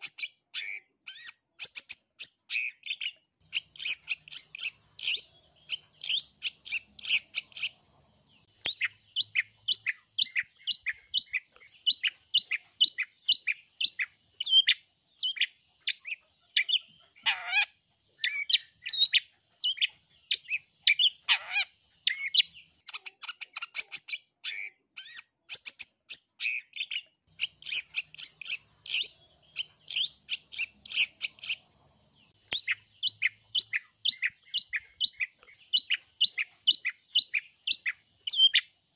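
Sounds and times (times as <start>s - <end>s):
harsh scratchy bird call: 0.0s - 7.8s, 8.4s - 25.8s, 26.4s - 31.7s, 32.3s - 38.8s
bird chirping: 0.0s - 38.9s.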